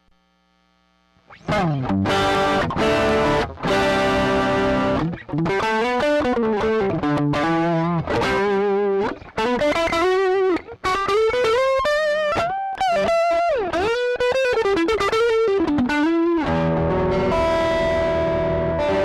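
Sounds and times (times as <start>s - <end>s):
overdriven electric guitar lead: 1.3s - 19.0s.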